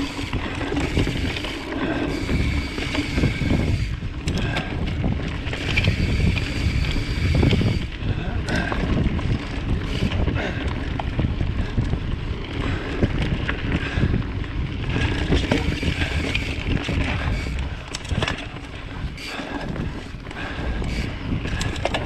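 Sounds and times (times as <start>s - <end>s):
bike rattles and clicks: 0.0s - 22.0s
bike tyres rolling on dirt: 0.0s - 22.0s
wind buffeting microphone: 0.0s - 22.0s.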